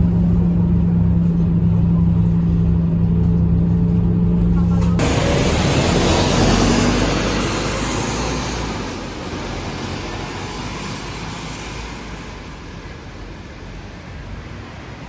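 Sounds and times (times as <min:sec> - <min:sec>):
bus engine pulling away: 0:00.0 - 0:15.0
road noise: 0:00.0 - 0:15.0.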